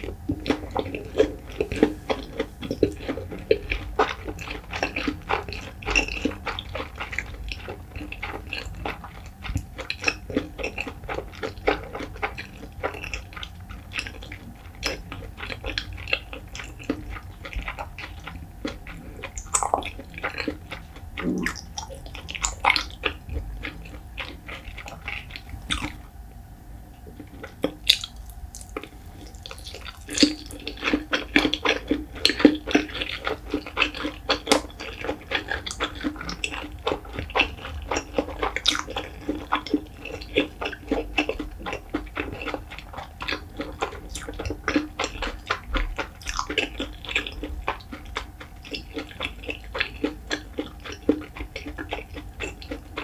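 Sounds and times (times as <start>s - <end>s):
wet chewing and mouth smacks: 0.0s - 26.1s, 27.0s - 53.0s.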